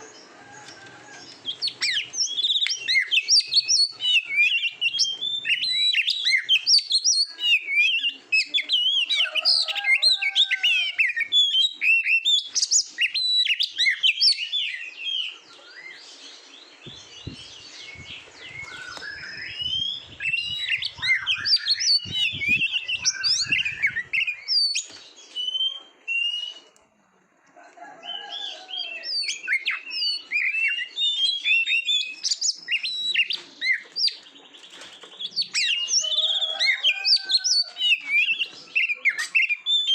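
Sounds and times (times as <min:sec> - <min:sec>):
bird song whistles and trills: 0:00.0 - 0:26.8, 0:28.1 - 0:39.9.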